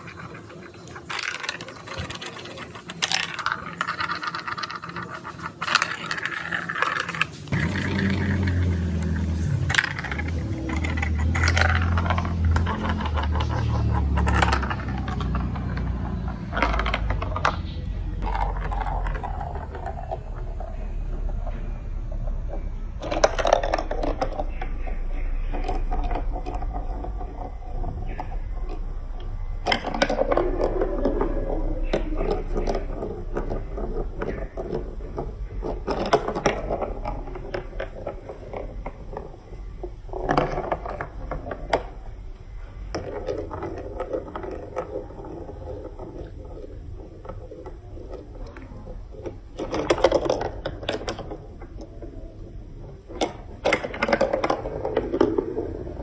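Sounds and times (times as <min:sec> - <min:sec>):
marbles rolling down a marble run: 0:00.0 - 0:56.0.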